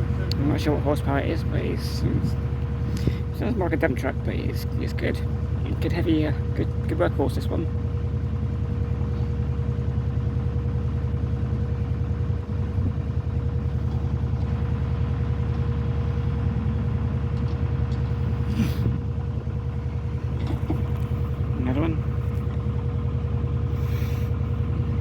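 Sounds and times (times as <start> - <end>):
diesel boat engine rumbling: 0.0 - 25.0.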